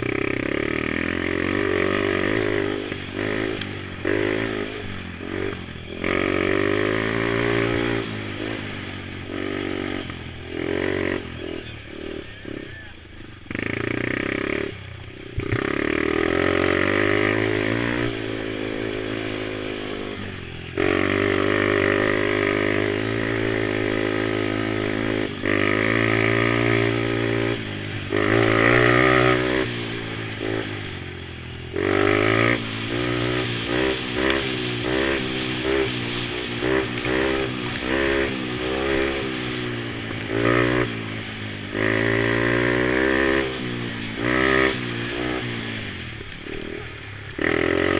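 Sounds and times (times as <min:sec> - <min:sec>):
small quad engine revving: 0:00.0 - 0:47.9.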